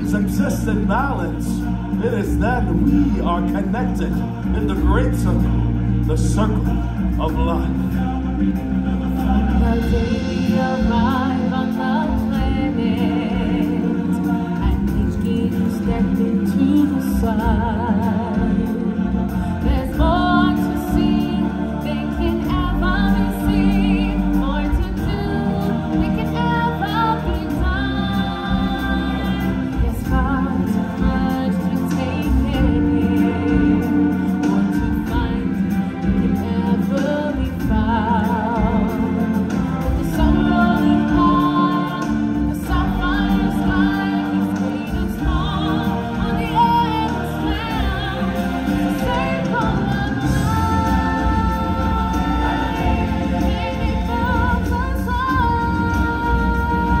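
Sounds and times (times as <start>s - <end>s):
backing music: 0.0s - 57.0s
band accompaniment: 0.0s - 57.0s
choir and solo voices singing: 0.0s - 57.0s.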